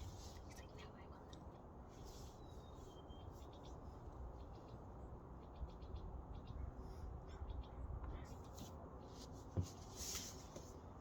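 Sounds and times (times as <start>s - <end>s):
faint birdsong: 0.0s - 9.7s.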